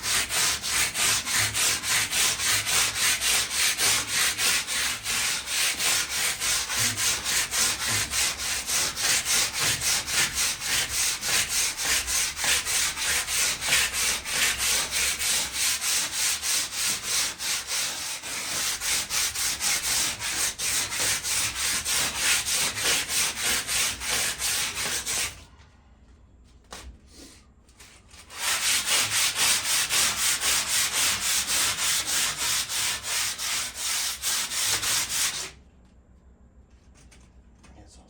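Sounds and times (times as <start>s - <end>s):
sanding scraping on metal: 0.0s - 25.3s, 28.3s - 35.5s.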